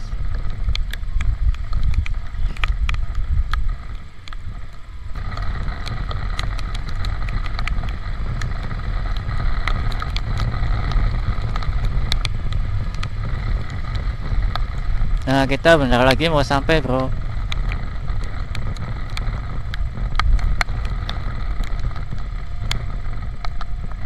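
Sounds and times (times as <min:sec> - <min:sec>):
faint steady whine: 0:00.0 - 0:24.0
motorcycle engine rumble: 0:00.0 - 0:24.0
raindrops ticking on camera: 0:00.0 - 0:24.0
wind on microphone: 0:00.0 - 0:24.0.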